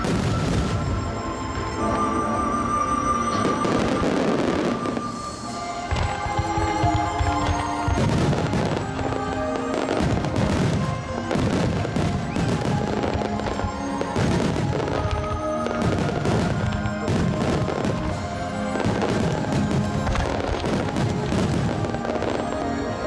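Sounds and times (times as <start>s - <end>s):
fireworks booming and cracking: 0.0s - 1.2s, 3.3s - 23.0s
music with long held notes: 0.0s - 23.0s.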